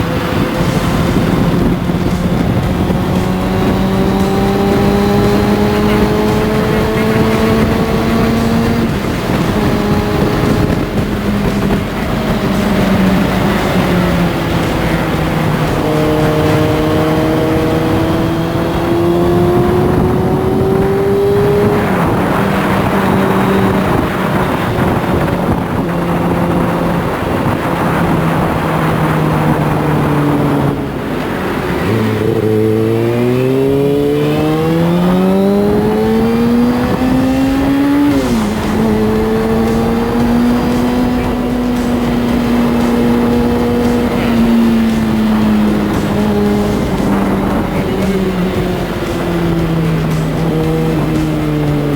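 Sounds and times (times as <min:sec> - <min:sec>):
motorcycle engine revving: 0:00.0 - 0:51.9
wind rushing: 0:00.0 - 0:51.9.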